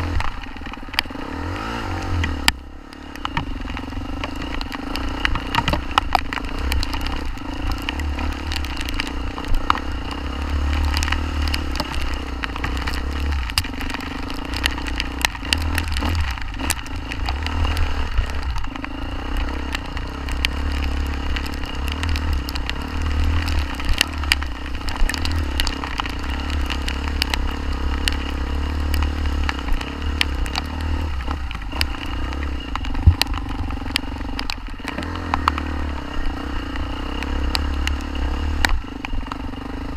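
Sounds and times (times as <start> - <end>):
wind rumble on microphone: 0.0 - 39.7
motorcycle engine running: 0.0 - 39.9
sharp clicks and clatter: 0.0 - 39.9.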